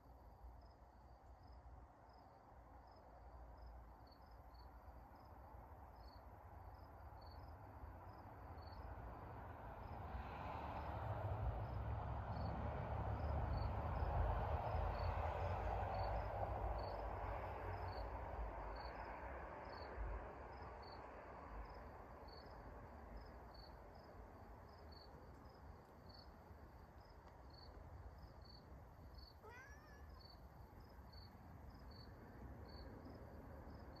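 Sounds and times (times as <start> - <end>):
cricket chirping: 0.0 - 11.0, 11.6 - 34.0.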